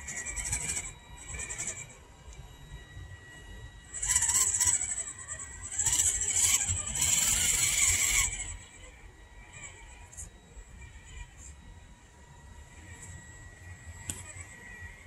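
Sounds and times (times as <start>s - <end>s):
rc car electric motor whine: 0.0s - 15.0s.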